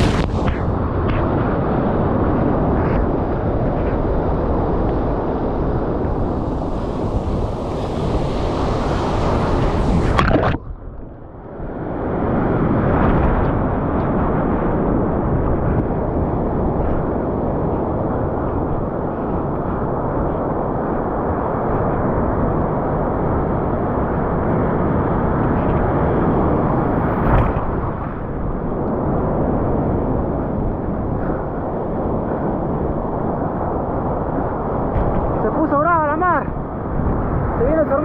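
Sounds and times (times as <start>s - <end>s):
sea surf and churning water: 0.0s - 38.0s.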